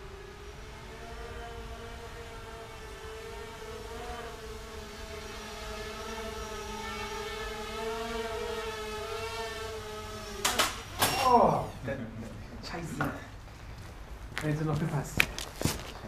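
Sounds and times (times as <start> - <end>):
distant quadcopter motors humming: 0.0 - 14.3.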